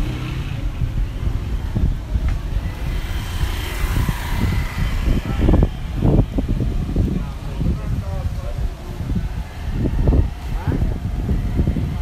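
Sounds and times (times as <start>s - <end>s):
low street rumble: 0.0s - 12.0s
passers-by talking faintly: 0.0s - 12.0s.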